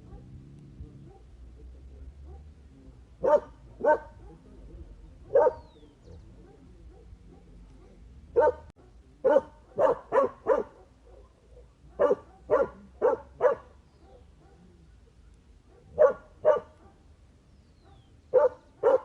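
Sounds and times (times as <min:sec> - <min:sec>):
dog barking: 0:00.0 - 0:02.6, 0:03.2 - 0:04.6, 0:05.2 - 0:17.1, 0:17.8 - 0:19.0.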